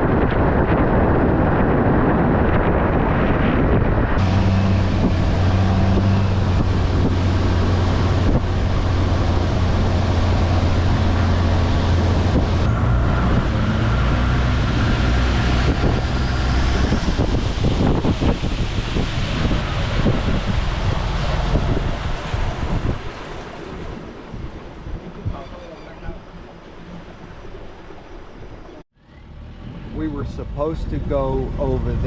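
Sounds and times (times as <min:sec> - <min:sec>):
wind buffeting microphone: 0:00.0 - 0:28.8
boat engine droning: 0:04.0 - 0:32.0.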